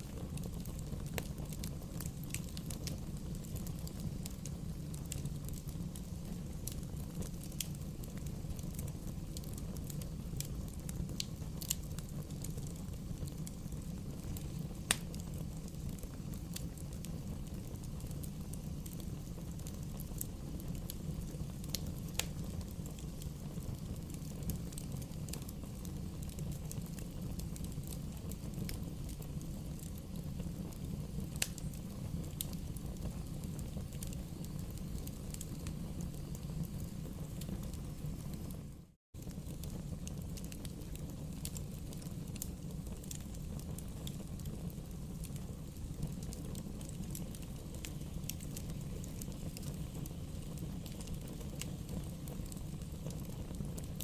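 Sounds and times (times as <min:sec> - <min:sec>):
bonfire rumble: 0:00.0 - 0:54.0
fire crackles and pops: 0:00.0 - 0:54.0.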